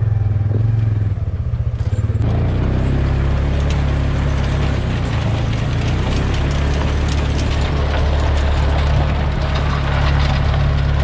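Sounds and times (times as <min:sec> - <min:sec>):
utility vehicle engine droning: 0:00.0 - 0:11.0
rattling and clatter: 0:01.7 - 0:11.0.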